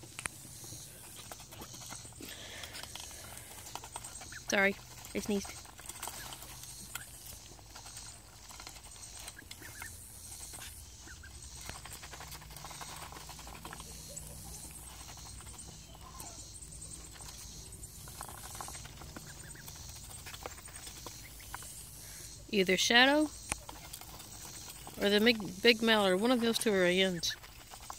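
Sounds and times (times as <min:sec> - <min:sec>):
ducks' bills tapping on metal pan: 0:00.9 - 0:27.9.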